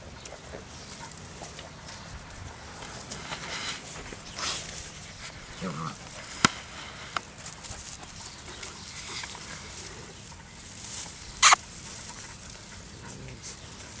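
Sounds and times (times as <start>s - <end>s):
branches rustling and scratching: 0.0s - 14.0s.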